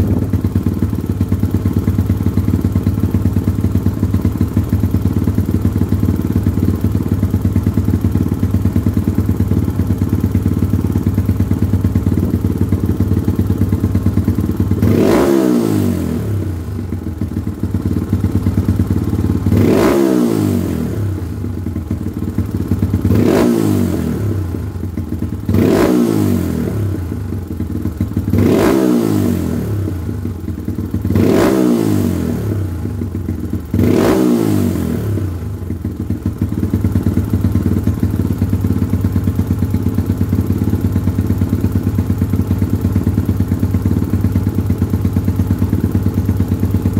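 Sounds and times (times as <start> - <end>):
motorbike engine idling and revving: 0.0 - 46.9.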